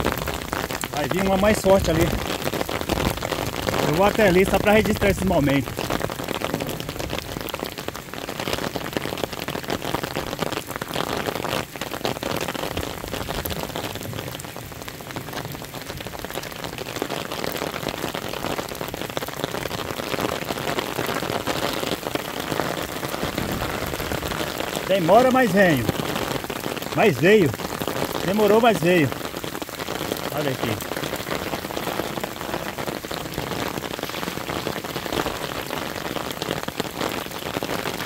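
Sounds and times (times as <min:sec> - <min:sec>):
rain falling on asphalt road: 0:00.0 - 0:38.0.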